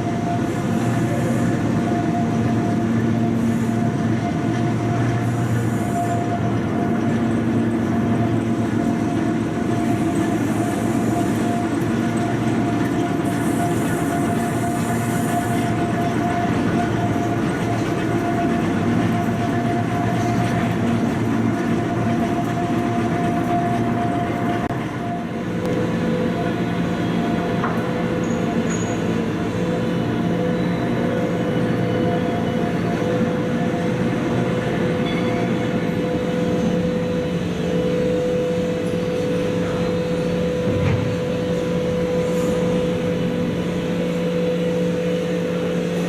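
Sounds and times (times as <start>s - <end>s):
train mechanical hum: 0.0s - 46.0s
train rumbling: 0.0s - 46.0s.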